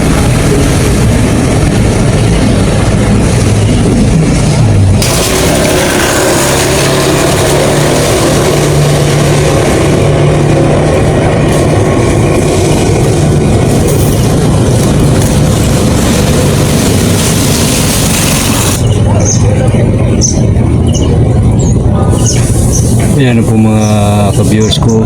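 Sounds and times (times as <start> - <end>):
loud rushing noise: 0.0 - 24.9
heavy engine humming: 0.0 - 25.0.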